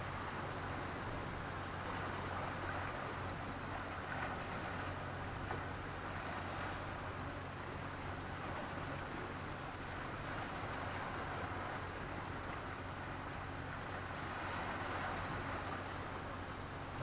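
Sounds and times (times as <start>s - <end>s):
small waves hissing on beach: 0.0s - 17.0s.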